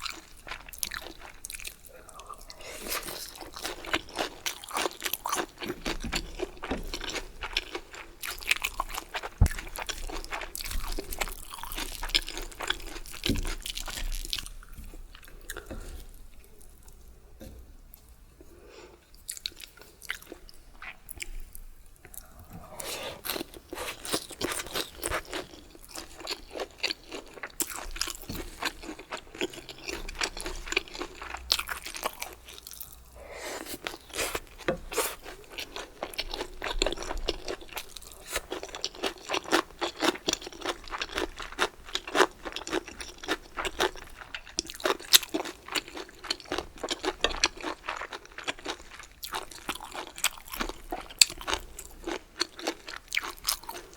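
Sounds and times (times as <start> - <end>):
crunchy chewing: 0.0 - 16.9, 19.2 - 53.9.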